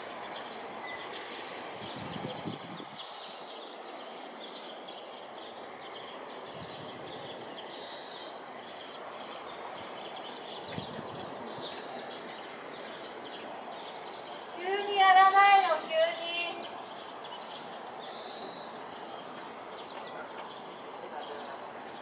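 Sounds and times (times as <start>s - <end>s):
birds chirping: 0.0s - 22.0s
city ambience hum: 0.0s - 22.0s.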